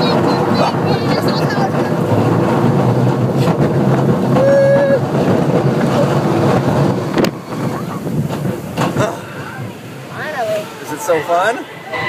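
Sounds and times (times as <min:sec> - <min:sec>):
roller coaster rumbling on track: 0:00.0 - 0:12.0
wind buffeting microphone: 0:00.0 - 0:12.0.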